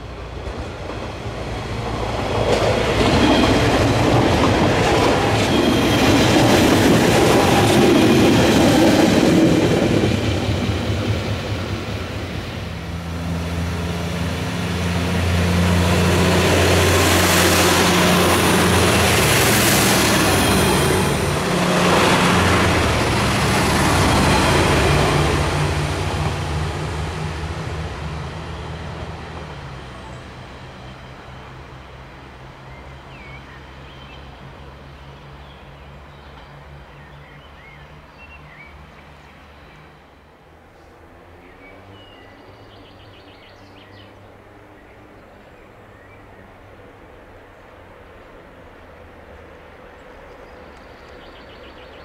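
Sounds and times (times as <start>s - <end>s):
wheels rumbling on rails: 0.0s - 45.7s
diesel train passing: 0.0s - 52.0s.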